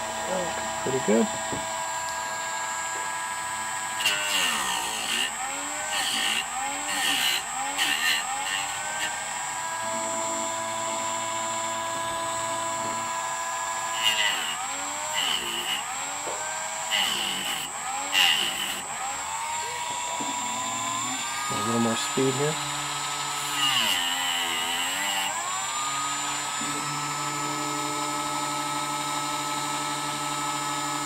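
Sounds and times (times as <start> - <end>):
rotary tool grinding: 0.0 - 30.8.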